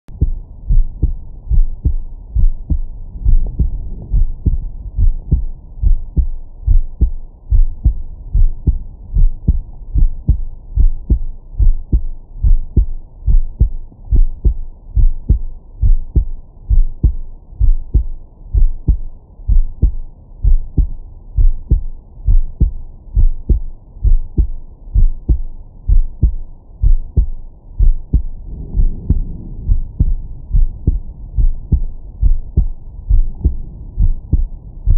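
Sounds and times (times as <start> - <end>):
heartbeat through stethoscope: 0.1 - 34.9.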